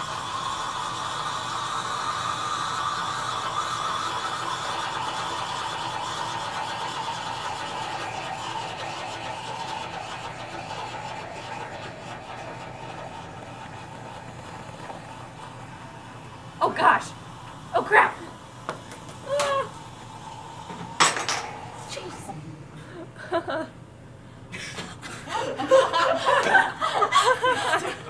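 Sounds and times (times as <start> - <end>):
burner flame hissing: 0.0 - 28.0
fume hood running: 0.0 - 28.0.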